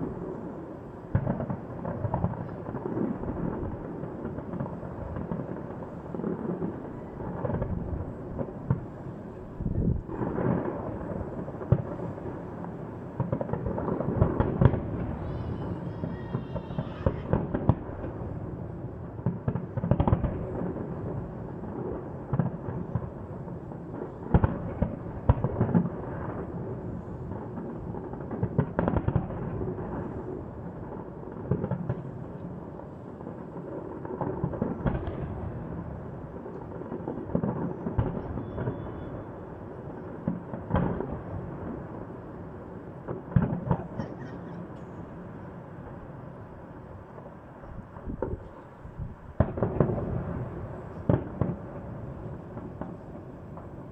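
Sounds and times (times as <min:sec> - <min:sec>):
firework shells booming: 0:00.0 - 0:53.9.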